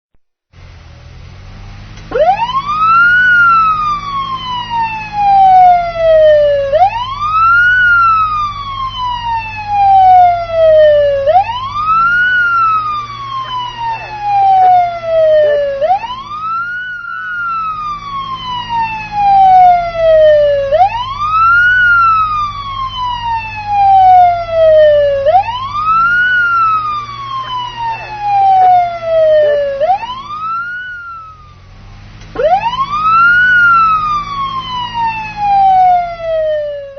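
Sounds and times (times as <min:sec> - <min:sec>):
low steady hum: 0:00.6 - 0:36.9
police siren wailing: 0:02.0 - 0:36.9.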